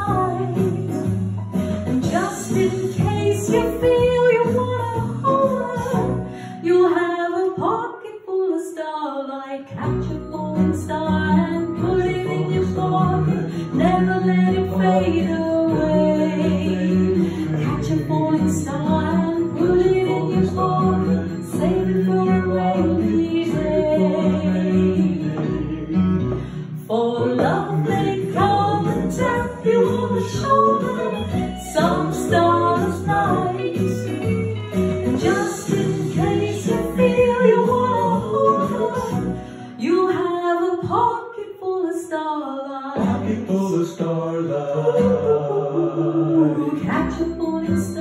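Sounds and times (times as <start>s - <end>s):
woman singing into a microphone: 0.0s - 1.1s, 1.8s - 25.9s, 26.8s - 43.2s, 46.4s - 48.0s
instrumental accompaniment: 0.0s - 6.6s, 9.7s - 39.8s, 43.0s - 48.0s.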